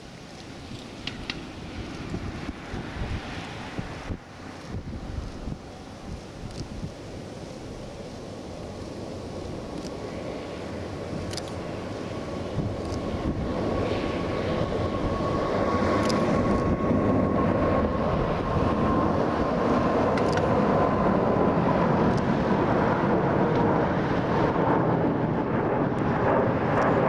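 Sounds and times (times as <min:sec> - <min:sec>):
jet engine whine: 0:00.0 - 0:27.0
jet engines roaring: 0:00.0 - 0:27.0.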